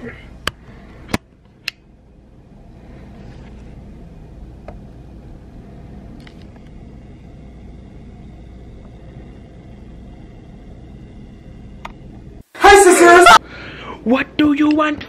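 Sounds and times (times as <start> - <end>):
low room rumble: 0.0 - 14.9.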